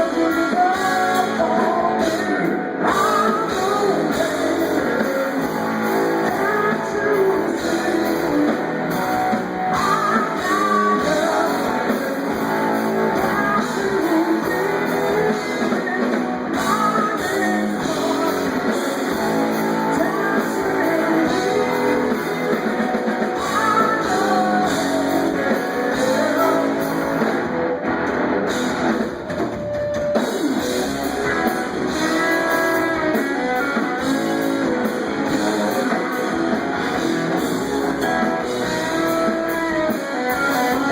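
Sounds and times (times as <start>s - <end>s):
live rock band with singing: 0.0s - 40.9s.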